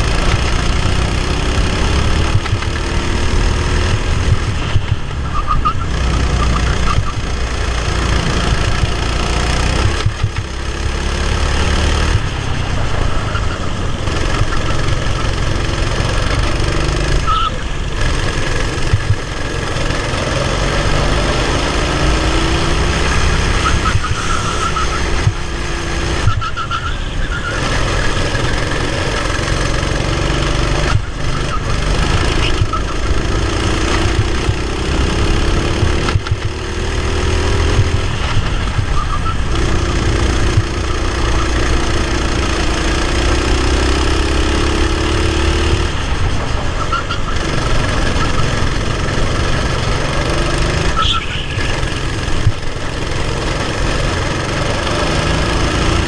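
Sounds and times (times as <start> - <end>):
kart engine running hard: 0.0 - 56.0.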